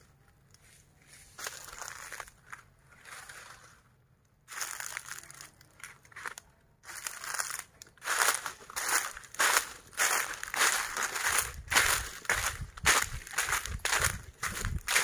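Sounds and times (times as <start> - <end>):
footsteps crunching dry leaves: 0.6 - 3.9, 4.5 - 15.0.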